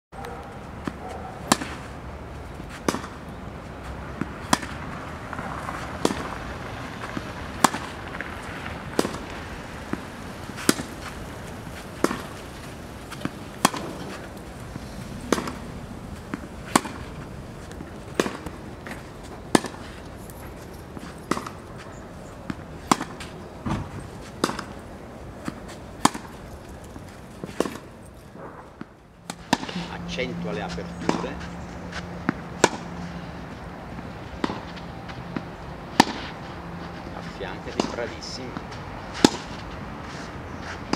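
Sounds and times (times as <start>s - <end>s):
tennis ball struck by rackets: 0.2s - 40.9s.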